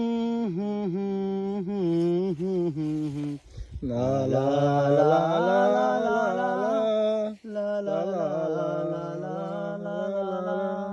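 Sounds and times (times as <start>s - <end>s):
man singing long held notes: 0.0s - 10.9s.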